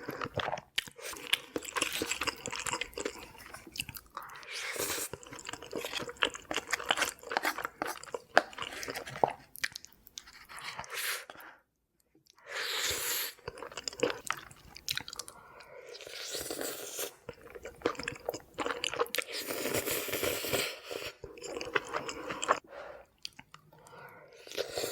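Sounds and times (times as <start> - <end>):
chewing pasta: 0.0 - 11.4, 13.3 - 24.9.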